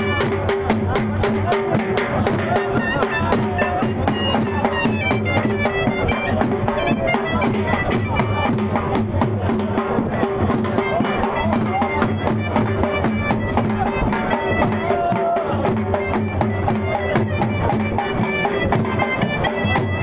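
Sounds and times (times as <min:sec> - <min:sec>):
drumming: 0:00.0 - 0:20.0
reedy pipe melody: 0:00.0 - 0:20.0.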